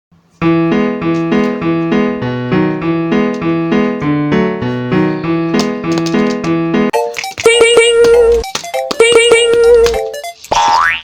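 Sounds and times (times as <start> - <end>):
bright keyboard tune: 0.4 - 10.5.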